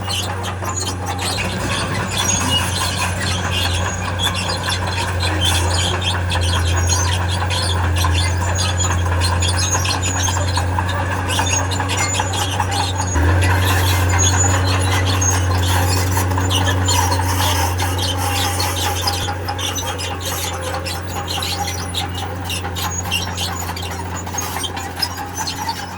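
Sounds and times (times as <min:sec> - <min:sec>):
crawler tracks squealing and clattering: 0:00.0 - 0:25.9
diesel engine droning: 0:00.0 - 0:25.9.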